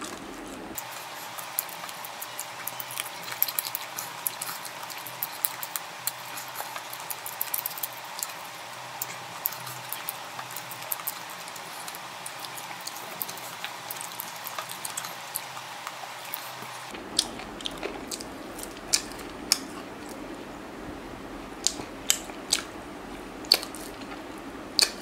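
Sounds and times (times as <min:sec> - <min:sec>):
person chewing with mouth open: 0:00.0 - 0:20.4, 0:21.6 - 0:25.0
steady hiss: 0:00.0 - 0:25.0.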